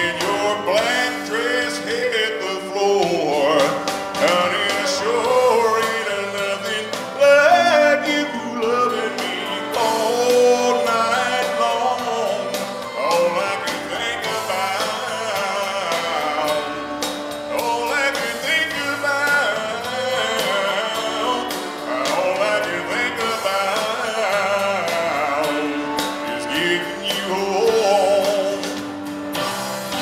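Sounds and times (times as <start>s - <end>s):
backing music: 0.0s - 30.0s
man singing country song: 0.0s - 30.0s.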